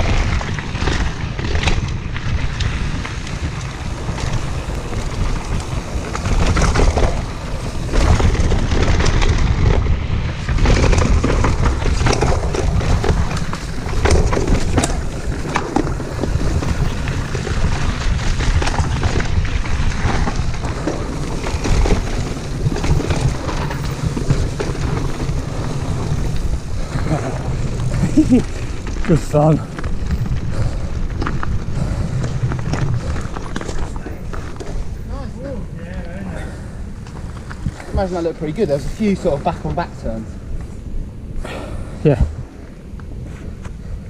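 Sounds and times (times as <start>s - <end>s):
bike rattling over bumps: 0.0s - 44.0s
bike tyres rolling over dirt: 0.0s - 44.0s
wind rumble on microphone: 0.0s - 44.0s.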